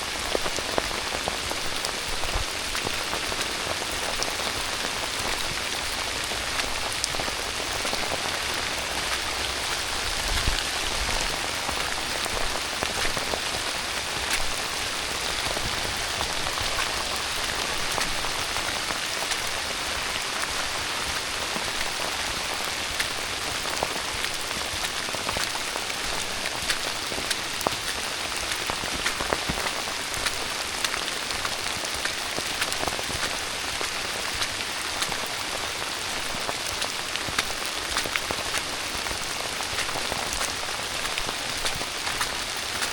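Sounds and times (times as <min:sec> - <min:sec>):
raindrops tapping: 0:00.0 - 0:42.9
steady rain hiss: 0:00.0 - 0:42.9.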